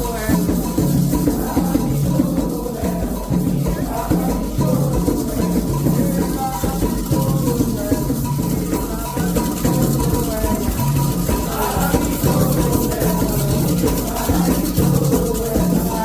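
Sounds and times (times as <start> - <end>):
drums playing steady beat: 0.0 - 16.0
rattling shaker: 0.0 - 16.0
voices singing a chant: 0.0 - 16.0.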